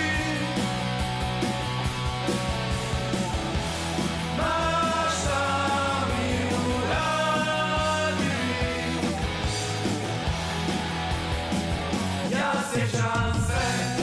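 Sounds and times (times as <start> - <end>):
rock song with drums: 0.0 - 14.0.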